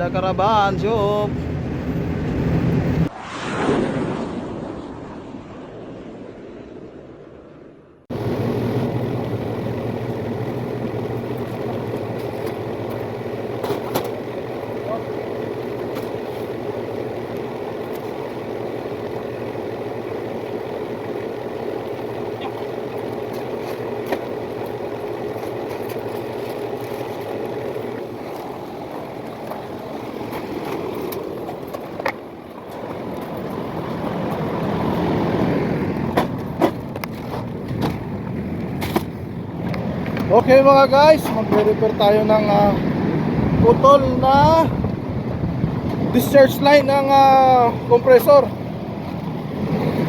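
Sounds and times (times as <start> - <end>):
machinery running hum: 0.0 - 3.1, 8.1 - 50.0.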